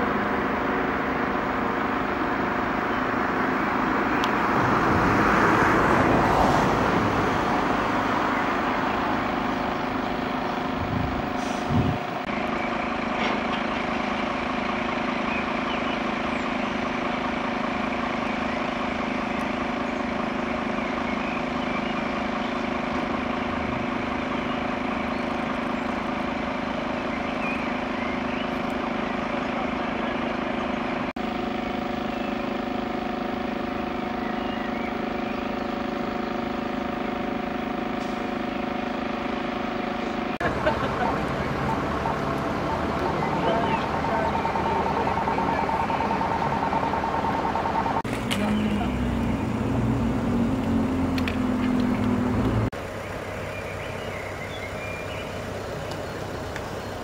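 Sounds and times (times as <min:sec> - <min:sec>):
street ambience: 0:00.0 - 0:57.0
truck engine humming: 0:00.0 - 0:57.0.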